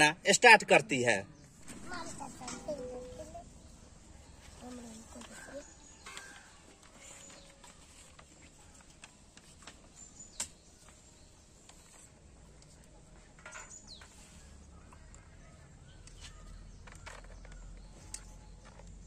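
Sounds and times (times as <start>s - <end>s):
bird chirp: 1.2s - 8.8s, 9.4s - 19.0s.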